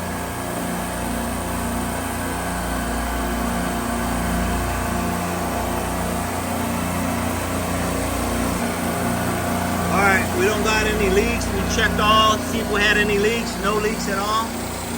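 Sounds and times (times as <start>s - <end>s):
refrigeration machinery hum: 0.0s - 14.9s.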